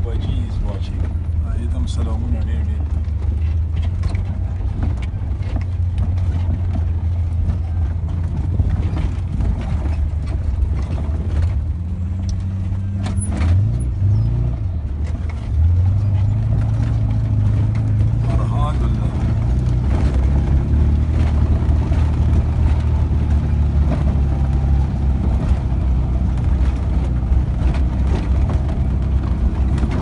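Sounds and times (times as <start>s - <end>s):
knocks and rattles: 0.0s - 30.0s
vehicle engine running: 0.0s - 30.0s.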